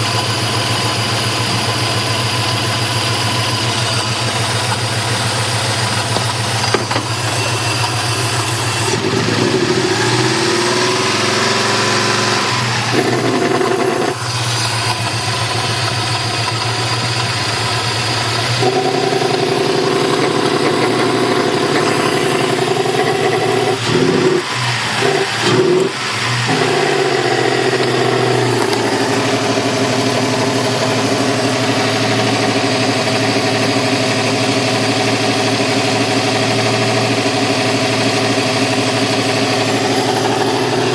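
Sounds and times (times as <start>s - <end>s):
car engine idling with throaty exhaust: 0.0s - 40.9s.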